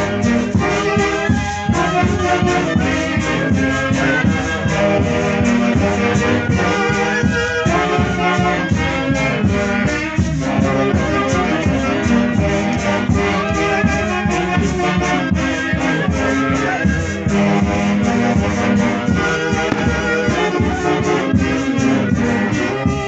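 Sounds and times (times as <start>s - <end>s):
horns playing a tune: 0.0s - 23.0s.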